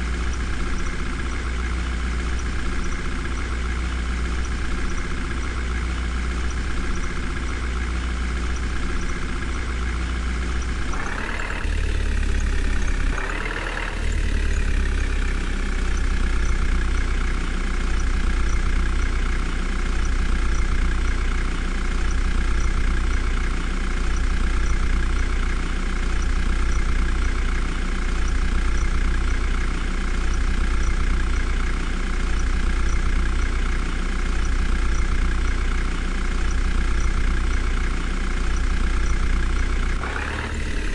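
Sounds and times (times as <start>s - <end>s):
vehicle engine idling and revving: 0.0s - 40.9s.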